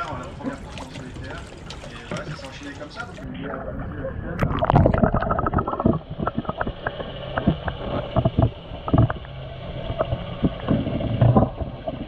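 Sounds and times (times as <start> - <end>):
low underwater rumble: 0.0 - 12.0
muffled underwater hull scrubbing: 0.0 - 12.0.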